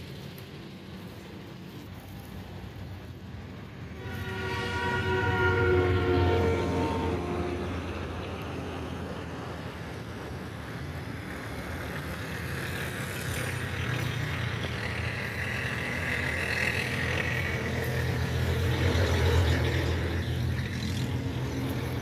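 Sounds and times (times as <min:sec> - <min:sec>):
vehicle engine rumble: 0:00.0 - 0:04.8, 0:06.4 - 0:22.0
traffic noise: 0:00.0 - 0:22.0.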